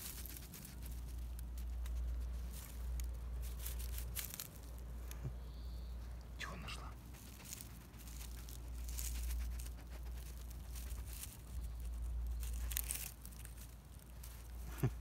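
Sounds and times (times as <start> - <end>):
dry grass rustling and crackling: 0.0 - 5.4, 6.8 - 15.0
steady low rumble: 0.0 - 15.0.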